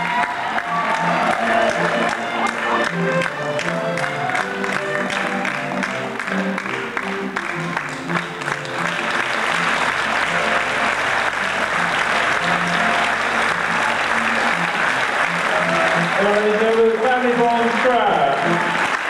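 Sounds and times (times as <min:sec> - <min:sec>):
amplified accordion band music: 0:00.0 - 0:19.0
audience applauding: 0:00.0 - 0:19.0.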